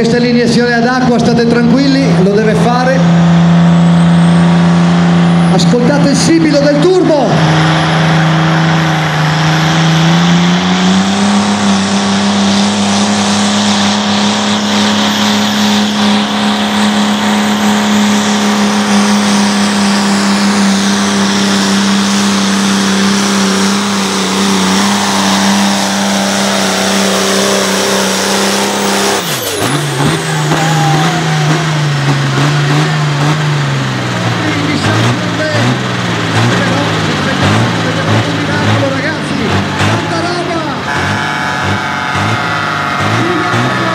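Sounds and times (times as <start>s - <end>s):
diesel engine at full throttle: 0.0s - 43.9s.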